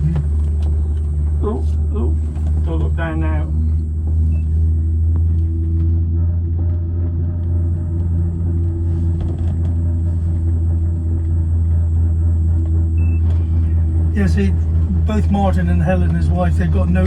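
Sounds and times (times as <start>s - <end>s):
passenger train rumble: 0.0s - 17.0s.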